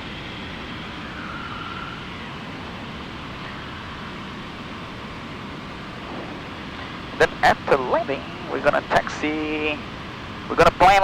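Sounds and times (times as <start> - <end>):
airplane cockpit engine noise: 0.0 - 11.0.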